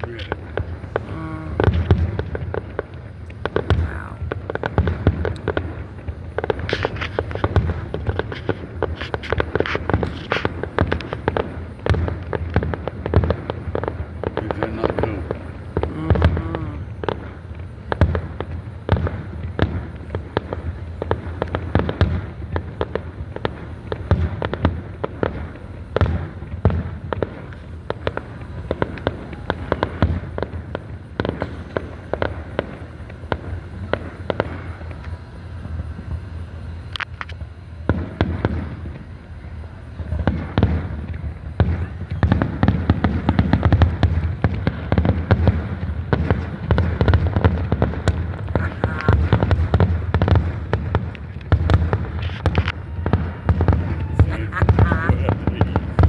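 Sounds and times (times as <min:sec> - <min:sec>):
fireworks booming and crackling: 0:00.0 - 0:56.0.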